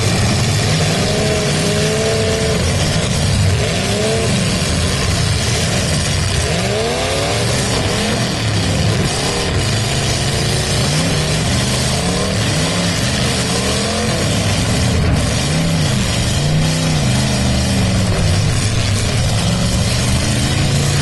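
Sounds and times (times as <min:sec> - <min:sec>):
demolition derby cars revving: 0:00.0 - 0:21.0
engine and exhaust din: 0:00.0 - 0:21.0.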